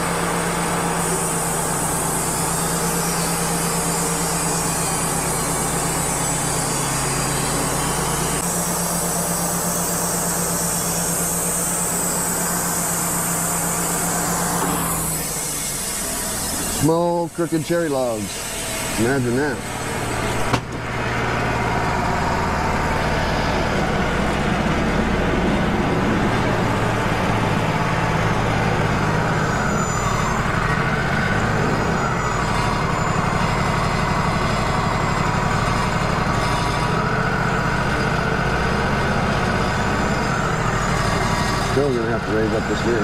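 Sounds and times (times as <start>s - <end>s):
bandsaw blade whine sawing log: 0.0s - 43.0s
diesel engine running: 0.0s - 43.0s.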